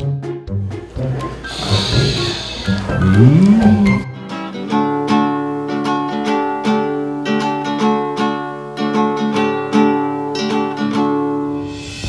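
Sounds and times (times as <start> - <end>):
acoustic guitar strumming: 0.3 - 11.6.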